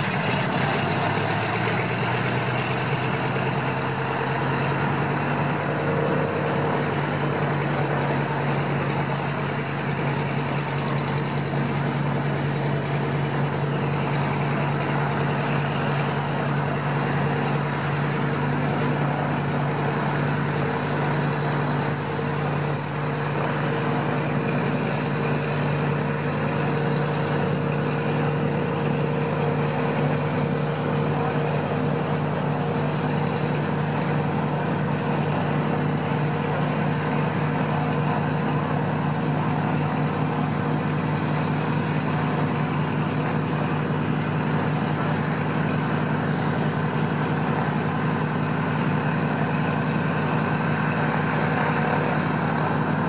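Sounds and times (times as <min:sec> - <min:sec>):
propeller plane engines idling: 0:00.0 - 0:53.0.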